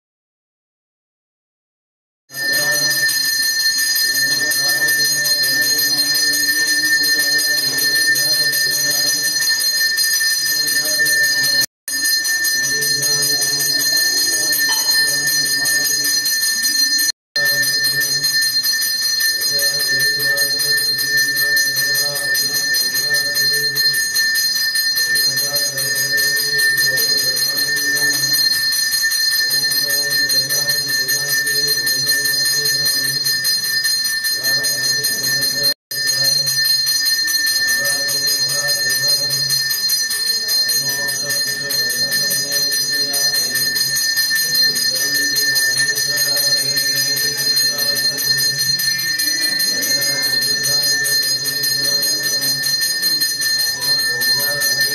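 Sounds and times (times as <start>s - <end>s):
bell ringing: 2.3s - 54.9s.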